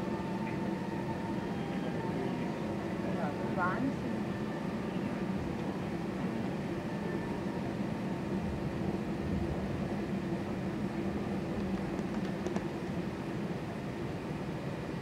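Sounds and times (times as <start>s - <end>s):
jet engines humming in cabin: 0.0s - 15.0s.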